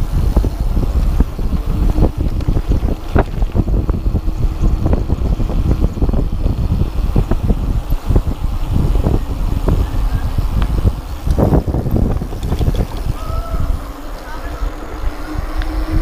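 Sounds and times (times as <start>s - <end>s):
bicycle knocking and rattling: 0.0s - 16.0s
wind rushing over microphone: 0.0s - 16.0s.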